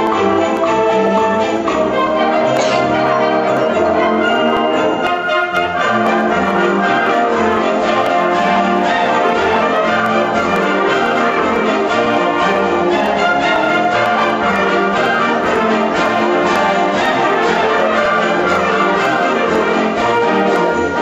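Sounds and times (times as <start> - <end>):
concert wind band playing: 0.0 - 21.0.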